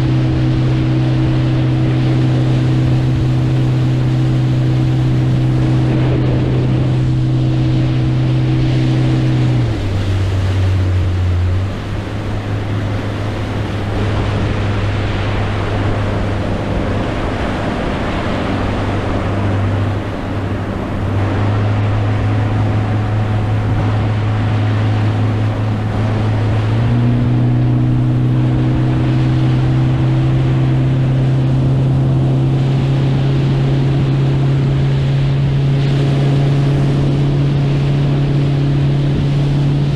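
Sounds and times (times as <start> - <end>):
motorboat engine running: 0.0 - 39.9
rushing water: 0.0 - 39.9
wind: 0.0 - 39.9.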